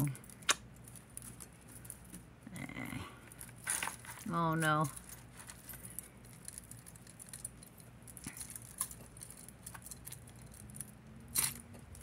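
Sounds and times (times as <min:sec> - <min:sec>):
metal chains and beads clinking: 0:00.0 - 0:12.0.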